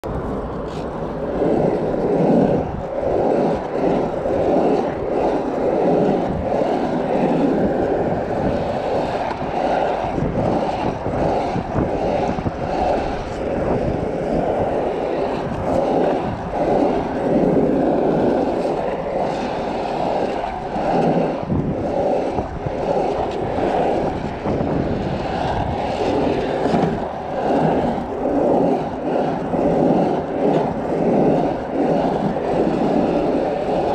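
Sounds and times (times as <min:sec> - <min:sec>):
skateboard wheels rolling on asphalt: 0:00.0 - 0:33.9.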